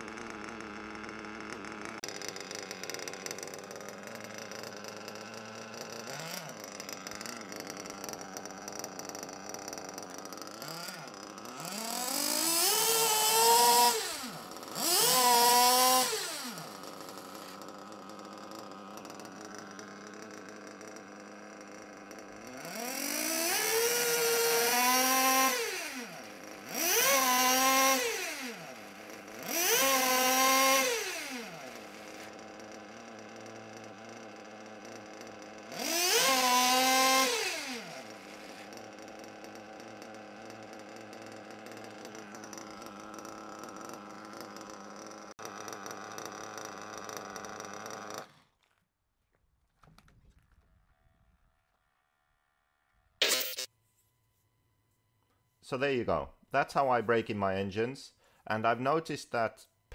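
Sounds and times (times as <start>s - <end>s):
small engine idling and revving: 0.0s - 48.9s, 51.6s - 53.7s.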